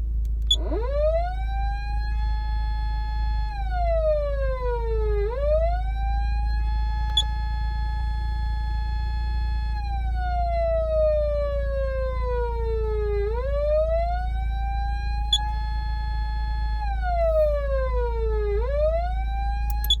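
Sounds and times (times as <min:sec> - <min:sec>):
steady low hum: 0:00.0 - 0:20.0
siren wailing: 0:00.5 - 0:20.0.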